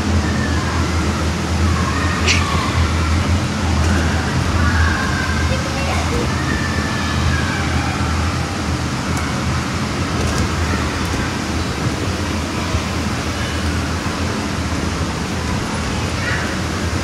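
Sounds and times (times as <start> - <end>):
air blowers rushing: 0.0 - 17.0.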